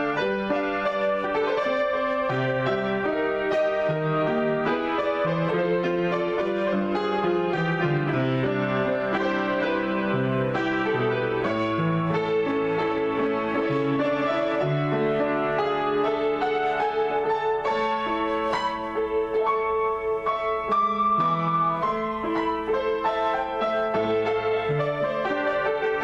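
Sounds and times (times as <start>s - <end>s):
solo piano improvisation: 0.0s - 26.0s.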